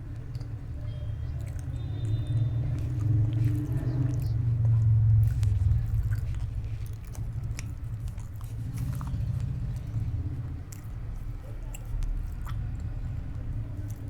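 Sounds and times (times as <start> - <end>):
person chewing food: 0.1 - 14.0.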